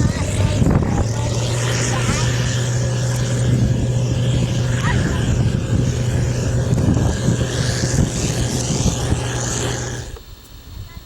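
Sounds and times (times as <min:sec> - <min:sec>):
engine running steadily: 0:00.0 - 0:10.5.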